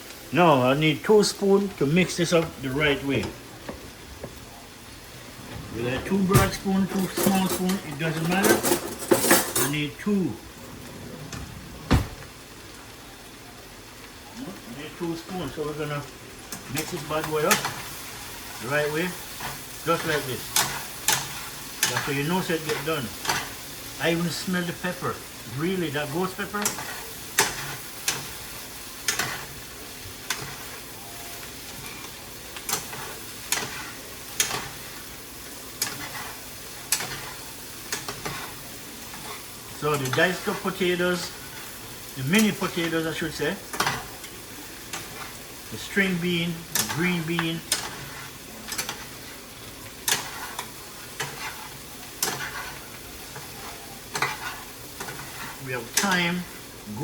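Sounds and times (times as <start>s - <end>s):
food sizzling in a pot: 0.0s - 57.0s.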